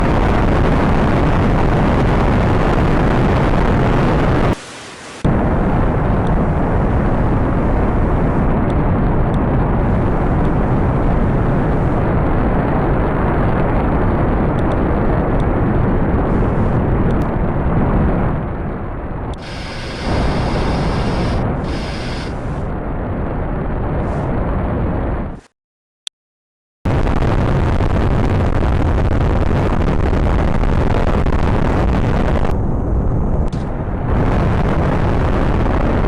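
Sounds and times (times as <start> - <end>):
rocket engine deep rumble: 0.0 - 4.6, 5.2 - 25.5, 26.9 - 36.0.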